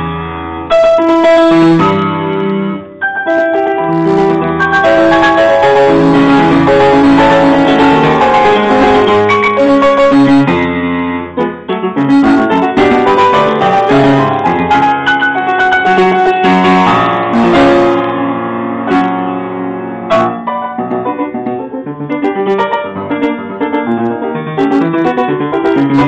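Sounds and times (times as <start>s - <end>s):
piano played loud and fast: 0.0s - 26.0s.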